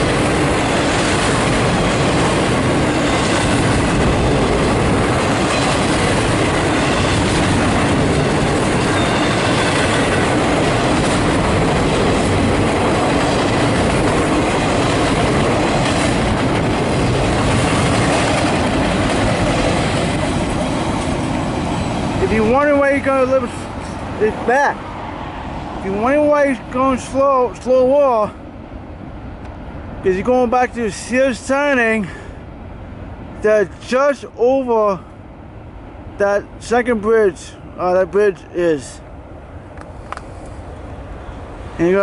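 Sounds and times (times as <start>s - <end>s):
freight train wheels rolling on rails: 0.0s - 42.0s.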